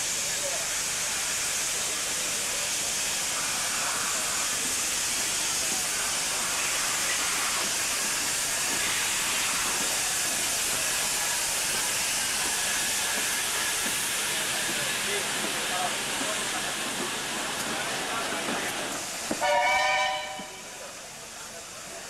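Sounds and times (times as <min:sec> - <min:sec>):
steam hissing from locomotive: 0:00.0 - 0:22.0.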